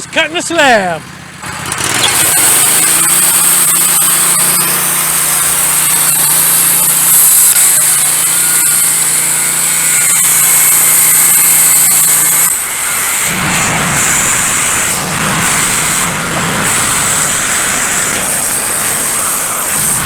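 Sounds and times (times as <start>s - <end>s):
sawmill engine running: 0.0s - 20.0s
band saw blade hissing through wood: 1.8s - 20.0s.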